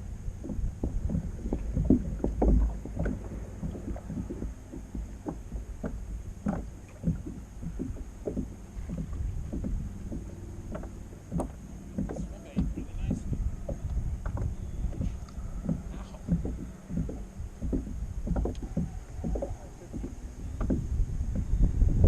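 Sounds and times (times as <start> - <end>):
water lapping against kayak hull: 0.0 - 22.0
wind rumble on microphone: 0.0 - 22.0.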